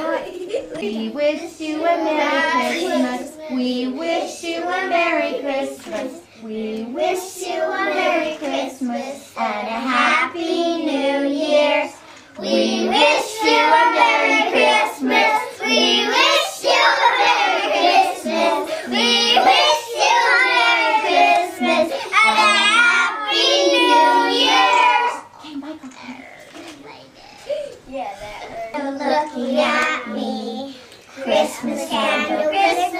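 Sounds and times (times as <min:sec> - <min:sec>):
young children singing: 0:00.0 - 0:25.4, 0:28.4 - 0:32.9.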